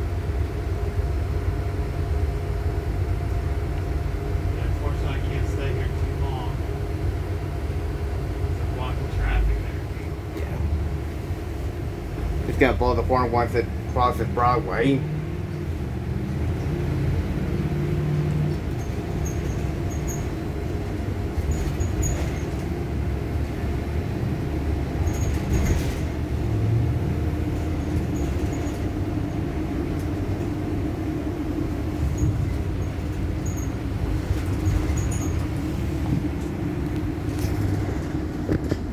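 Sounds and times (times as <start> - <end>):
bus idling: 0.0 - 38.9
freight train rolling past: 0.0 - 38.9.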